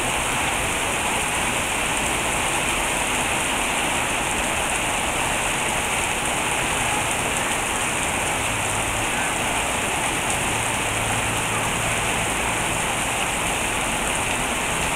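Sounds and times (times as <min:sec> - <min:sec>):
heavy rain on street and roof: 0:00.0 - 0:14.9.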